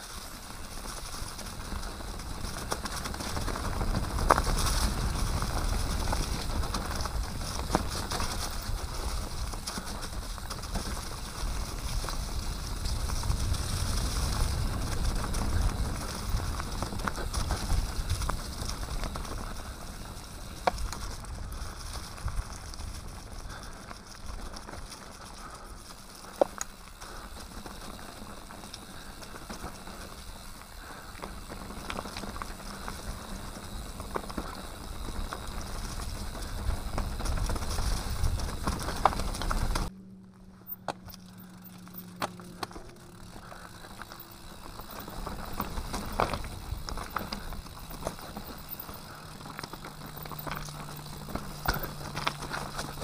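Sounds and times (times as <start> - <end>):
bike rattling over rough ground: 0.0 - 53.0
bike tyres crackling over leaves: 0.0 - 53.0.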